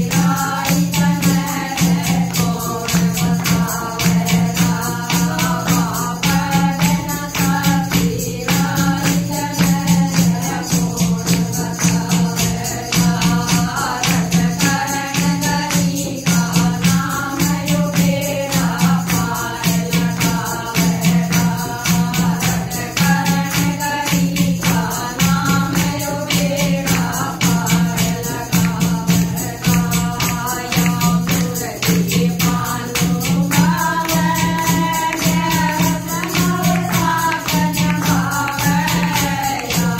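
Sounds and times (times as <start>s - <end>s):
clay pot drum beats: 0.0s - 39.9s
hand clapping: 0.0s - 39.9s
women singing together: 0.0s - 39.9s.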